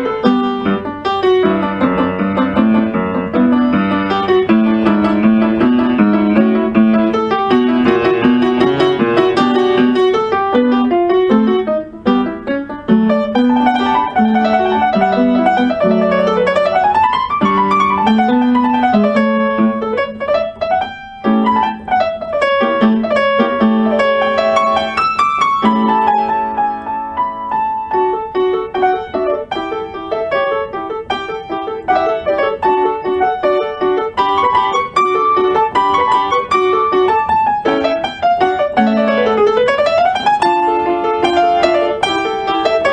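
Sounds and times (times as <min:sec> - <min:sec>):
piano music with quick runs: 0:00.0 - 0:42.9.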